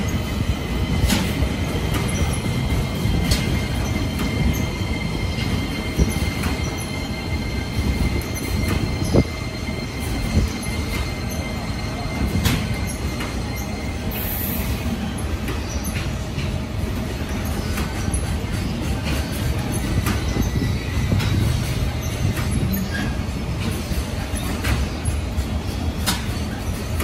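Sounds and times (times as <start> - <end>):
high wheel squeal: 0.0 - 16.2, 17.2 - 25.9
train wheels rumbling on rails: 0.0 - 27.0.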